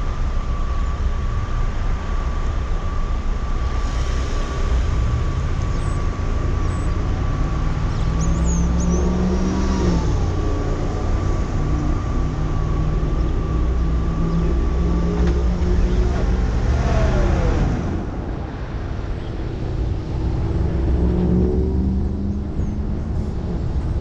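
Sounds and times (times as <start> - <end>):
thin high whine: 0.0 - 23.5
car engine rumble: 0.0 - 24.0.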